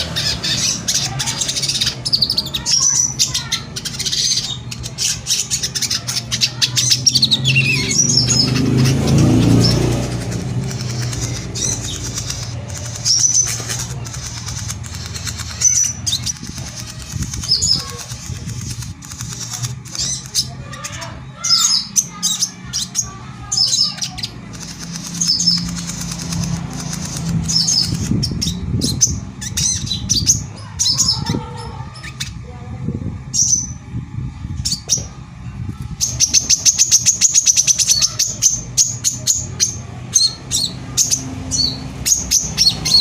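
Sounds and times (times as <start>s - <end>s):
jay chirping: 0.0s - 32.4s, 34.6s - 43.0s.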